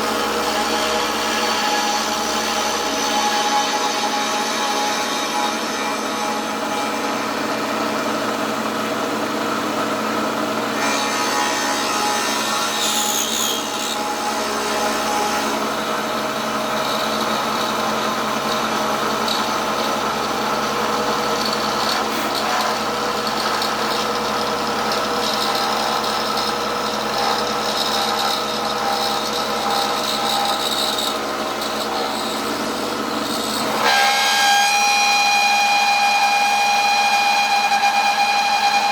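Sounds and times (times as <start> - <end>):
metal cutting rasp: 0.0 - 8.3, 10.7 - 38.9
milling machine motor whine: 0.0 - 38.9.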